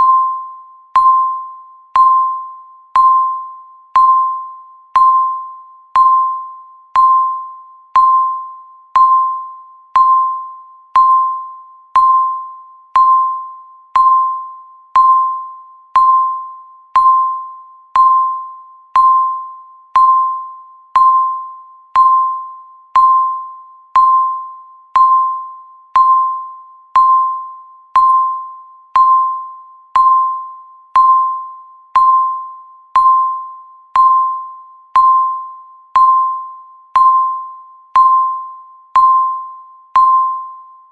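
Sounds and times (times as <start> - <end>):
timer electronic beep: 0.0 - 40.9.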